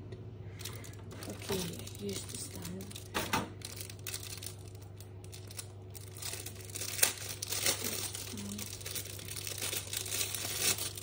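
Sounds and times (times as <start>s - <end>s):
plastic wrapping crinkling: 0.6s - 11.0s.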